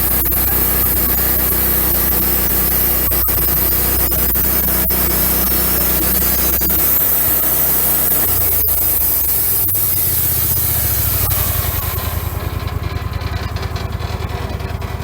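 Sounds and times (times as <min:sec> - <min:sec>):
bandsaw blade sawing log: 0:00.0 - 0:13.4
engine hum: 0:00.0 - 0:15.0.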